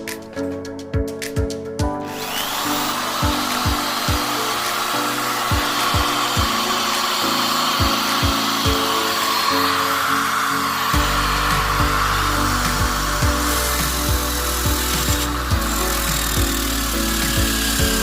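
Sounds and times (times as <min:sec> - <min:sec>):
background music with beat: 0:00.0 - 0:18.0
electric drill sanding: 0:02.0 - 0:18.0.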